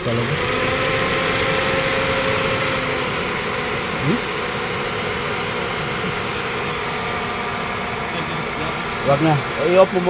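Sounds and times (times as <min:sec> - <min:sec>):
car engine idling roughly: 0:00.0 - 0:10.0.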